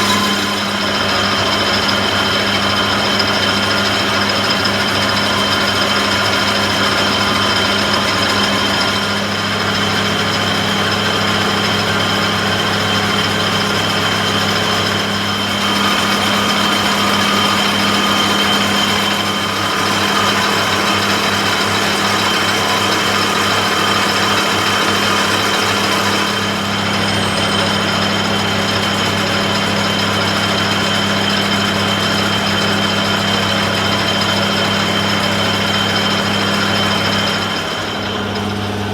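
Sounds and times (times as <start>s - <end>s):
power tool motor running: 0.0s - 38.9s.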